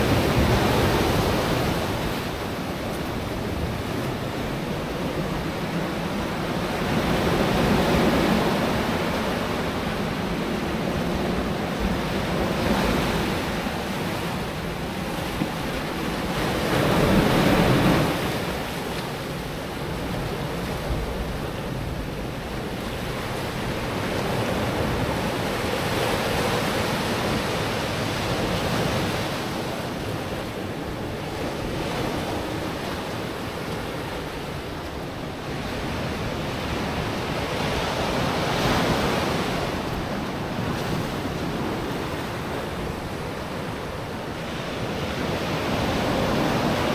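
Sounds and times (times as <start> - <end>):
ocean surf breaking on shore: 0.0 - 46.9.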